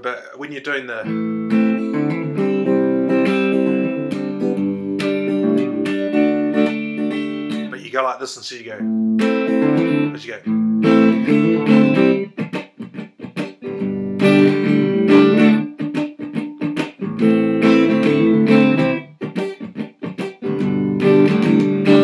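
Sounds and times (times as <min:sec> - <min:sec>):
electric guitar strumming chords: 0:00.8 - 0:07.8, 0:08.8 - 0:22.0.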